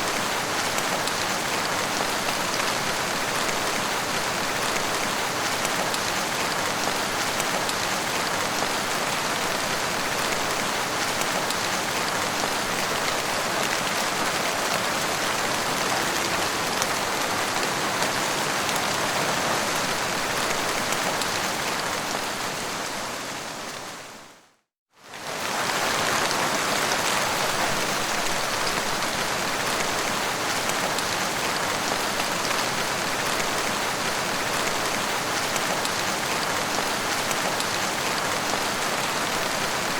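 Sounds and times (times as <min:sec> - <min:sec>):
rain pattering on surfaces: 0:00.0 - 0:22.9, 0:25.0 - 0:39.9.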